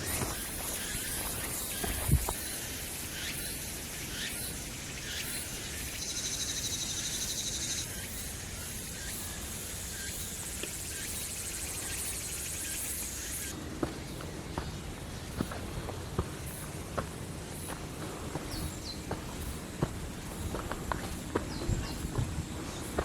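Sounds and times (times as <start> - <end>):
insects trilling and buzzing: 0.0 - 23.0
loud pulsing insect trill: 0.0 - 23.0.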